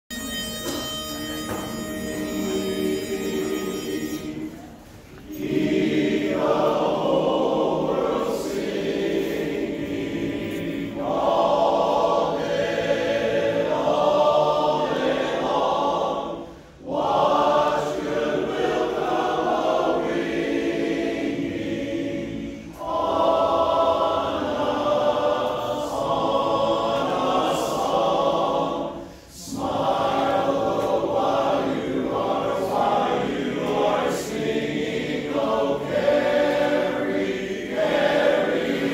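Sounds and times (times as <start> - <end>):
men's chorus singing a cappella: 1.7 - 38.9.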